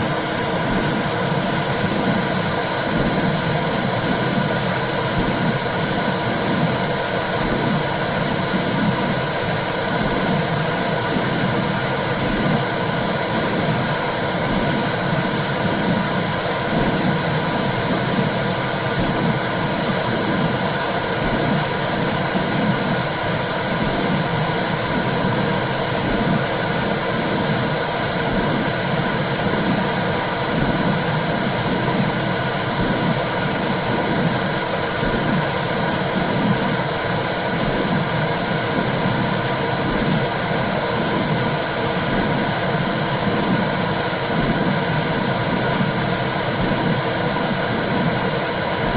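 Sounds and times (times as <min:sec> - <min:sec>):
rhythmic low pulsing: 0:00.0 - 0:48.9
steady whooshing noise: 0:00.0 - 0:48.9.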